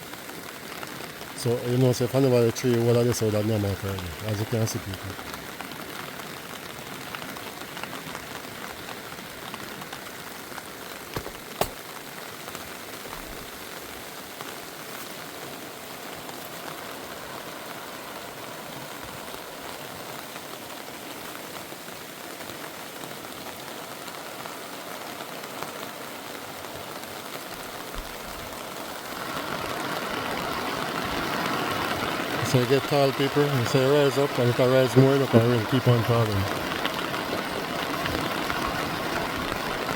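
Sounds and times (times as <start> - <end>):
rushing hissing water: 0.0 - 39.9.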